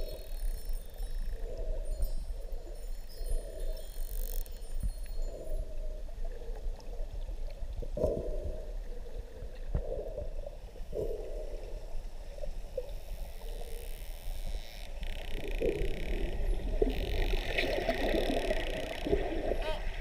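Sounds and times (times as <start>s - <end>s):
underwater swishing: 0.0s - 20.0s.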